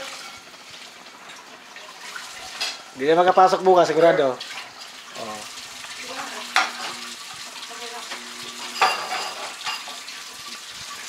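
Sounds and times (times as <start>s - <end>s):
steady sizzling hiss: 0.0s - 11.0s.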